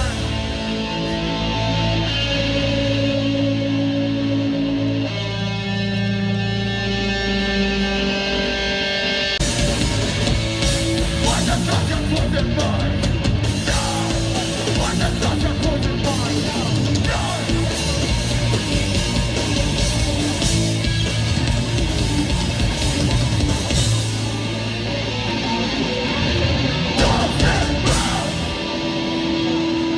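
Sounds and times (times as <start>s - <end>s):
punk band playing: 0.0s - 29.9s.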